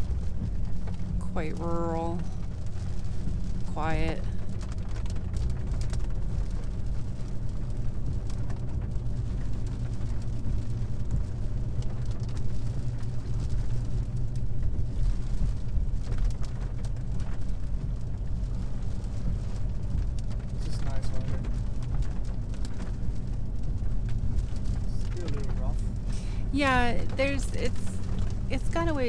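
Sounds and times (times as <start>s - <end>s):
car interior road noise: 0.0s - 29.0s.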